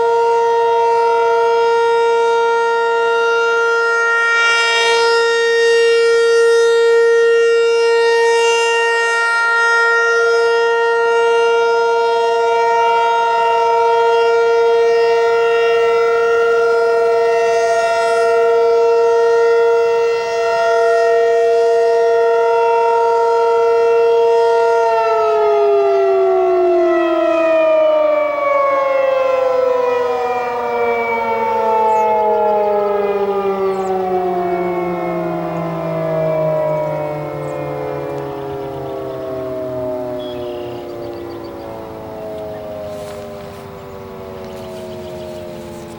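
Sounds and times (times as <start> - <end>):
tornado siren winding down: 0.0 - 45.9.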